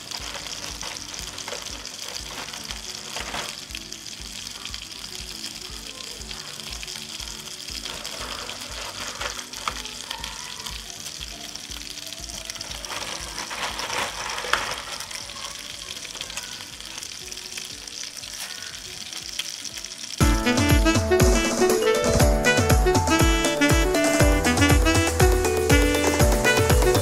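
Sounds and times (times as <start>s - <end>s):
water boiling in pot: 0.0s - 22.2s.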